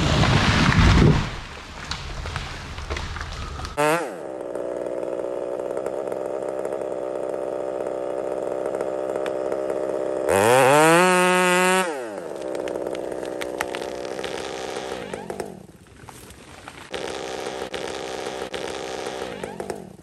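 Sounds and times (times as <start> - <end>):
chainsaw cutting and revving: 0.0 - 20.0.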